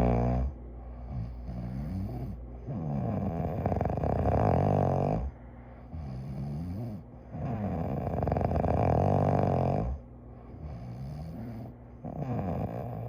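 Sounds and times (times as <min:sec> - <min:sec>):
person snoring: 0:00.0 - 0:00.6, 0:01.2 - 0:10.0, 0:10.6 - 0:13.0
quiet breathing: 0:00.0 - 0:13.0.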